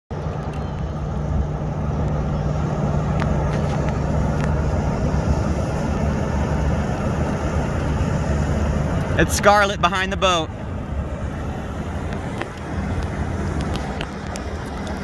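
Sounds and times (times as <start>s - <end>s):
boat motor humming: 0.1s - 15.0s.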